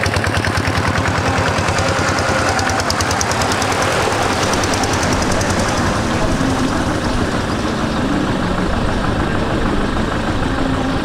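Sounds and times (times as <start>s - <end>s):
engine running: 0.0s - 11.0s
loud rushing noise: 0.0s - 11.0s.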